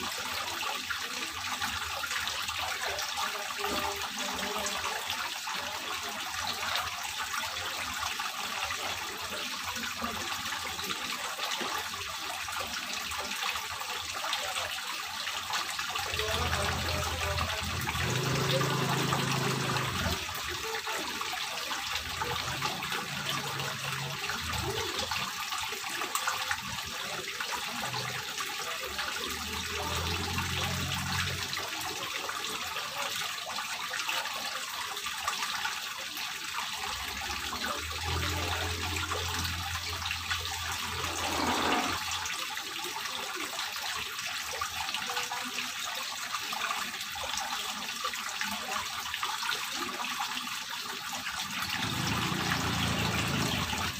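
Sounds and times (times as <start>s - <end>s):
fountain water splashing into pond: 0.0s - 53.9s.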